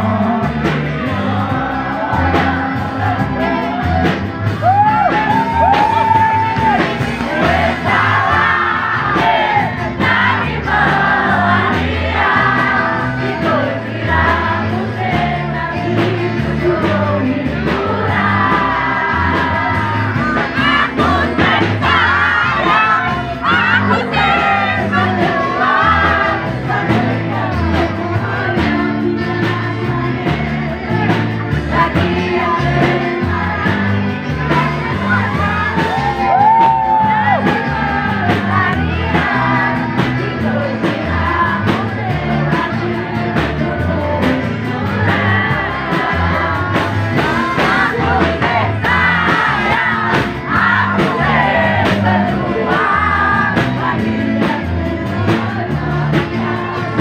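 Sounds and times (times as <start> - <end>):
crowd shouting and yelling: 0.0 - 57.0
live band music with singing: 0.0 - 57.0.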